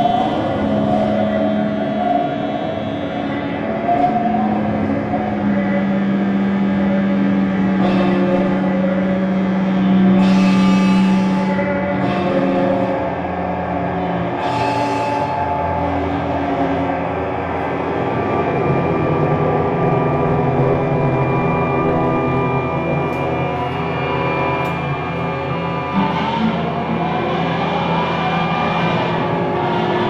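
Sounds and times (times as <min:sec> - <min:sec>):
electric guitar drone: 0:00.0 - 0:30.0.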